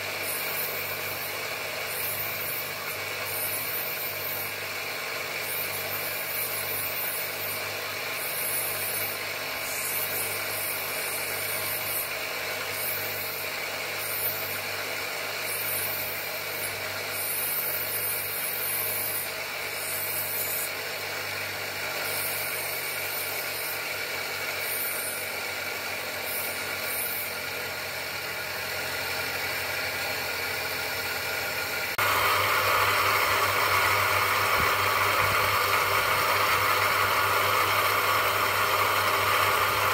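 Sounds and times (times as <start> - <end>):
bench grinder humming: 0.0 - 39.9
stone hissing on grinding wheel: 0.0 - 39.9.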